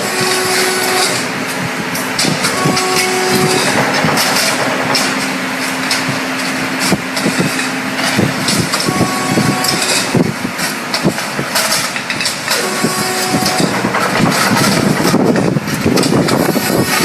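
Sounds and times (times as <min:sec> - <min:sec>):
welding machine clatter: 0:00.0 - 0:17.0.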